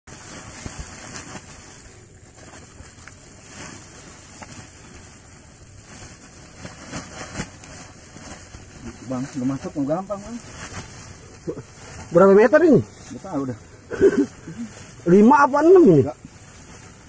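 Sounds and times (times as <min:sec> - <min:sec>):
sack rustling and scraping: 0:00.1 - 0:17.0
steady rushing hiss: 0:00.1 - 0:17.0.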